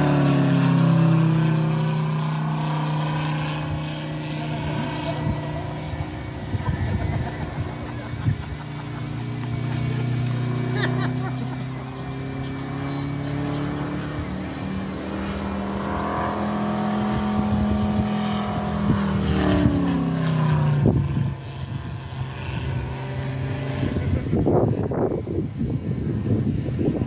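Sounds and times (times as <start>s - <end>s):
model plane engine in flight: 0.0s - 27.0s.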